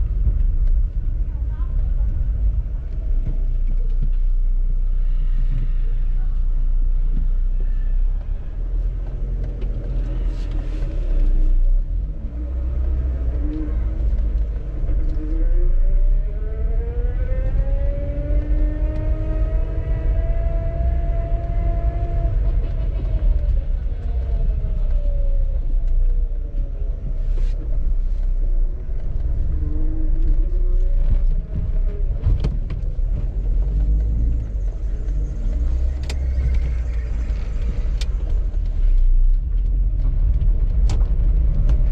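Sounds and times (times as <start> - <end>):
low road rumble: 0.0 - 41.9.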